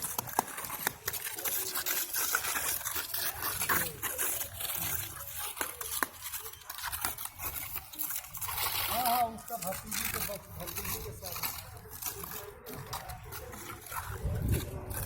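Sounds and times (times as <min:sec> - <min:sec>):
irregular scraping: 0:00.0 - 0:15.0.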